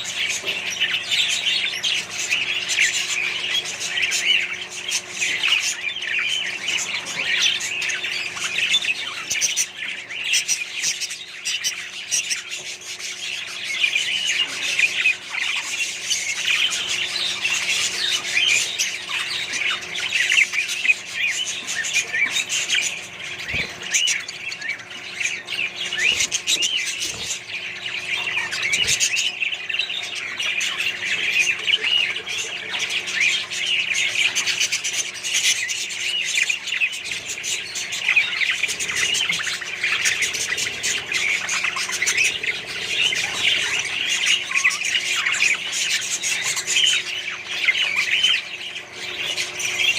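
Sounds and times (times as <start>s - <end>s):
cage birds chattering and squawking: 0.0s - 49.9s
faint steady hum: 0.0s - 49.9s.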